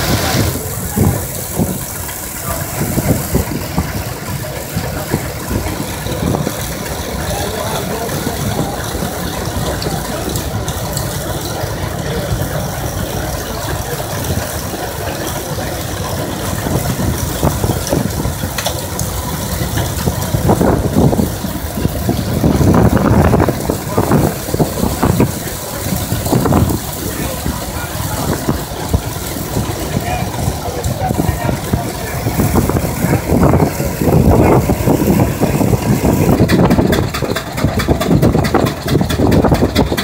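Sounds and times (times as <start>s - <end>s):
threshing machine rattling: 0.0s - 40.0s.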